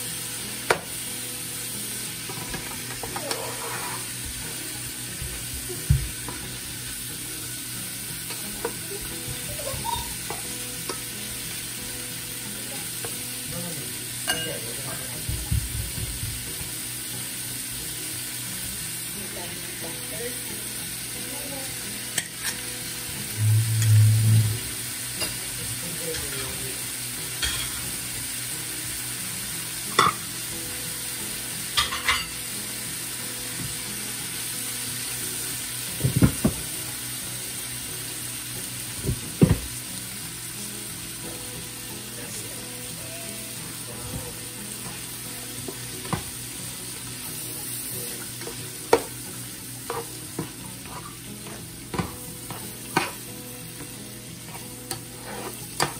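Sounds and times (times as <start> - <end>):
food sizzling in a pot: 0.0 - 55.9.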